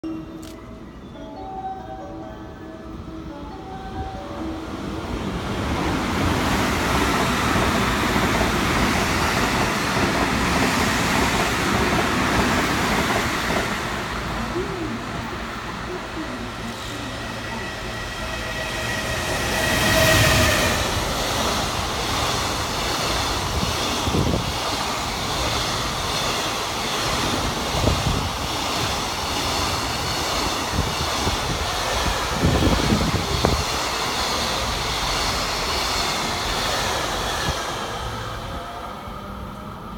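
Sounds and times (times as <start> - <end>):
wheels rumbling on rail: 3.5 - 39.9.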